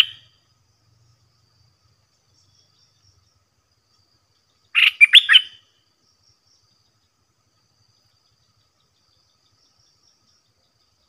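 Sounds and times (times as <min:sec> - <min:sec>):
faint insect trill: 0:00.0 - 0:11.0.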